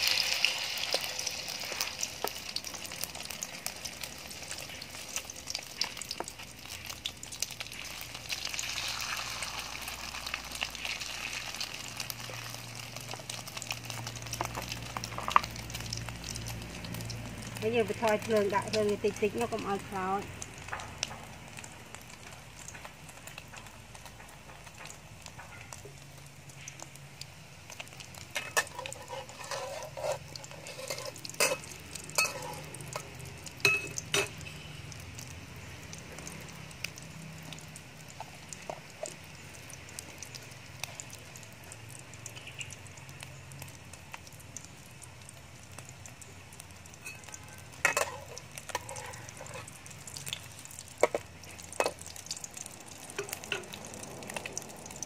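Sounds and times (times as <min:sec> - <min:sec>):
omelette frying in bubbling oil: 0:00.0 - 0:55.0.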